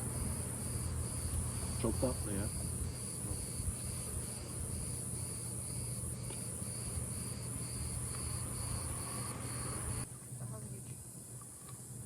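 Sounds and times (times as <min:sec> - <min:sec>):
crickets chirping: 0:00.0 - 0:12.0
steady low hum: 0:00.0 - 0:12.0.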